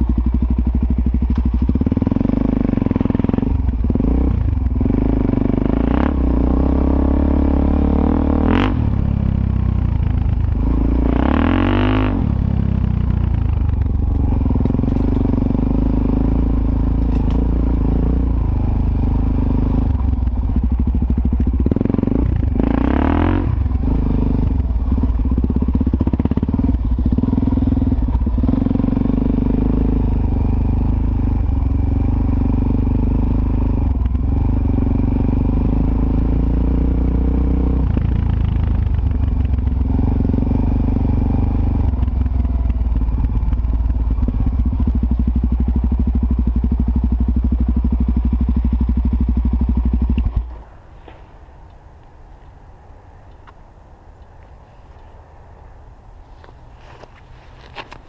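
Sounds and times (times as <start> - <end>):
motorcycle engine revving: 0.0 - 51.2.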